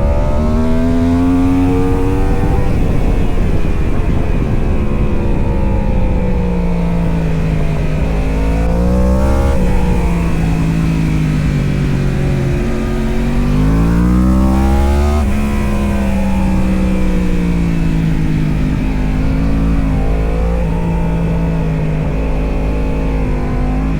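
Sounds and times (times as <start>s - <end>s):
superbike engine revving: 0.0s - 23.9s.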